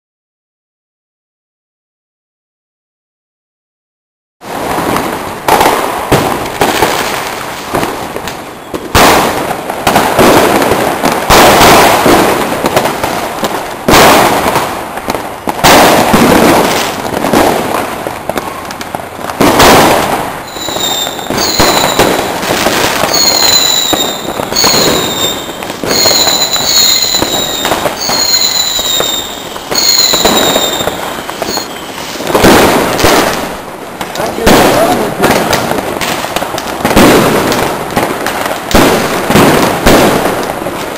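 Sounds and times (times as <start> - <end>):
firecrackers crackling: 4.4 - 40.9
firework bangs: 4.4 - 40.9
whistling fireworks: 4.4 - 40.9.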